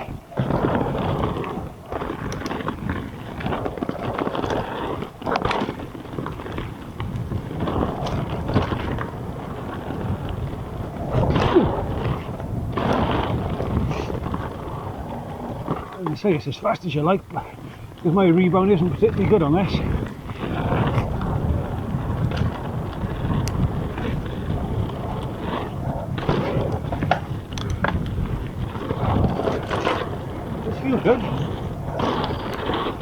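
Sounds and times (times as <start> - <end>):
bike knocks and rattles: 0.0 - 33.0
bike tyres rolling on dirt: 0.0 - 33.0
wind noise on microphone: 0.0 - 33.0.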